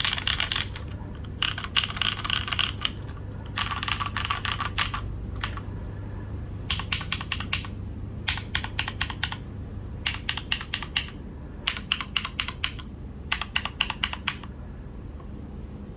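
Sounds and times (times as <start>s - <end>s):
mechanical keyboard typing: 0.0s - 5.7s, 6.7s - 14.5s.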